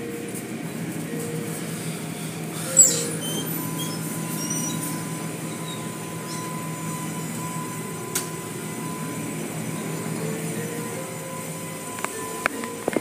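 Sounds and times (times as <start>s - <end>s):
car wash machinery rumbling: 0.0s - 13.0s.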